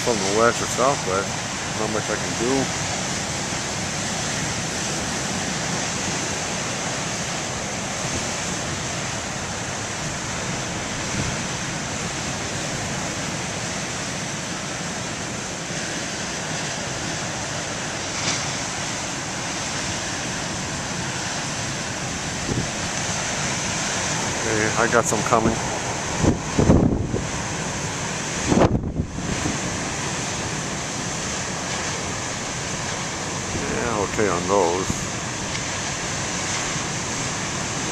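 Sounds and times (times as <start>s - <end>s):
wind buffeting microphone: 0.0s - 14.4s, 15.9s - 37.9s
ocean surf breaking on shore: 0.0s - 37.9s.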